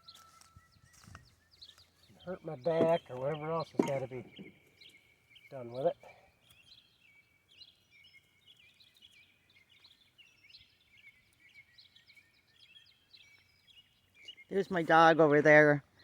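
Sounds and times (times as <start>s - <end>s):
birds chirping and trilling: 0.0s - 16.0s.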